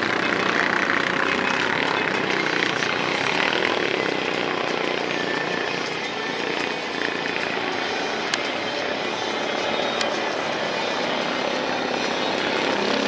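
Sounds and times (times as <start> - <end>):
racing engines din: 0.0 - 13.0.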